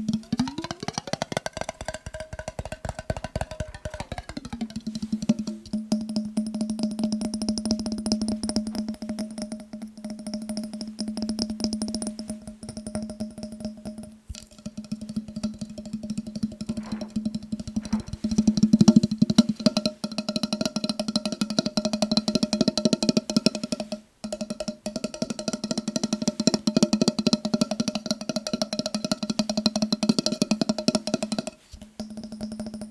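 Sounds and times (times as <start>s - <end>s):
fast tapping on glass jar: 0.0s - 32.9s.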